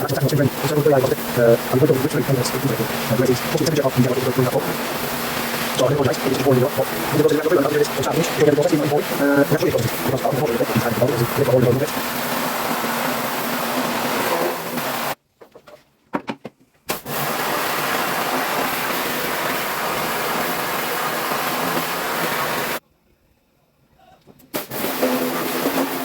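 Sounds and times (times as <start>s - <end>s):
pressure washer spraying: 0.0s - 15.2s, 16.9s - 22.8s, 24.6s - 26.0s.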